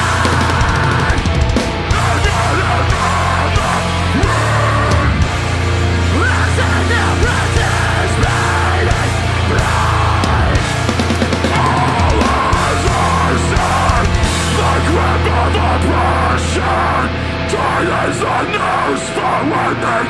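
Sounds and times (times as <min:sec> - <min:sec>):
heavy metal band playing live: 0:00.0 - 0:20.0.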